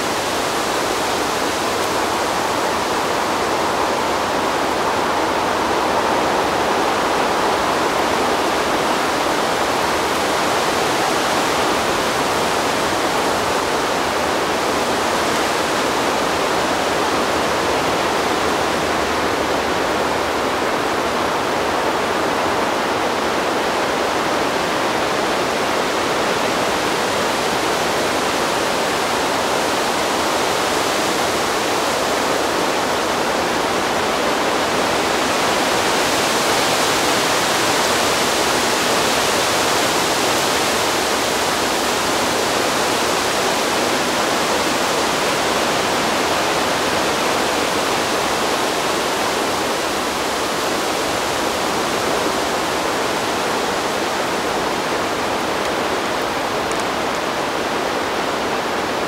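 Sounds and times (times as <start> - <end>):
wind blowing through trees: 0.0 - 59.0.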